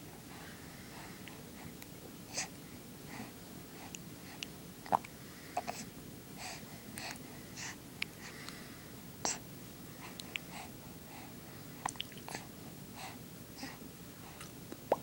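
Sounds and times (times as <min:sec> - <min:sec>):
baby breathing in soft puffs: 0:00.1 - 0:04.5, 0:05.2 - 0:09.4, 0:10.0 - 0:14.5.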